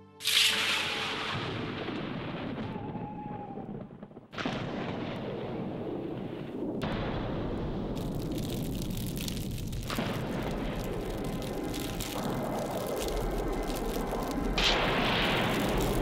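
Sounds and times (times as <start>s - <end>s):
deep booming rumbles: 1.2s - 16.0s.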